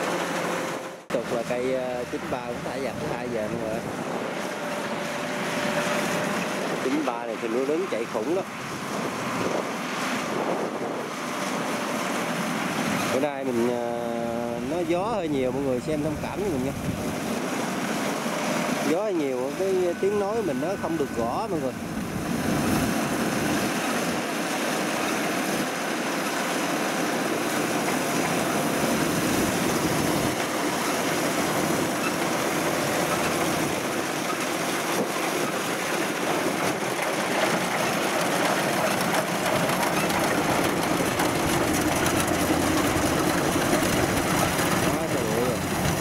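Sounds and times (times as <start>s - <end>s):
combine harvester running: 0.0s - 46.0s
wind buffeting microphone: 1.4s - 46.0s.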